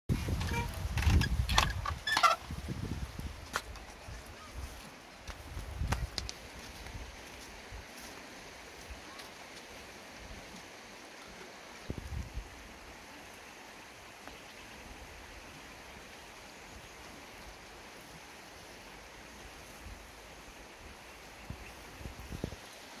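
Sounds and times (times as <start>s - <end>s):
outdoor background hiss: 0.1s - 23.0s.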